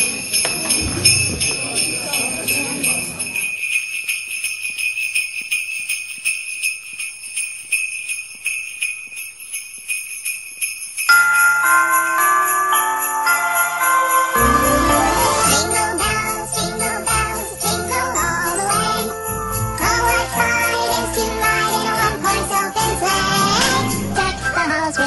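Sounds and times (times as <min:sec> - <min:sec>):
tinkling melody: 0:00.0 - 0:24.6
sleigh bells jingling: 0:00.0 - 0:24.7.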